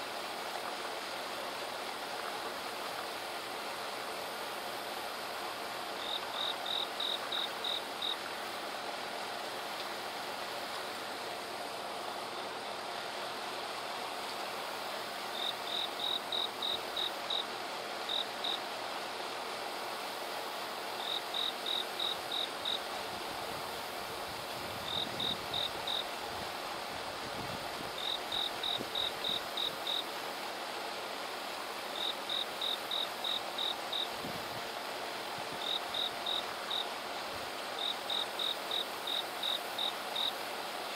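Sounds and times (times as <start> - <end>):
hiss of insect song: 0.0 - 40.9.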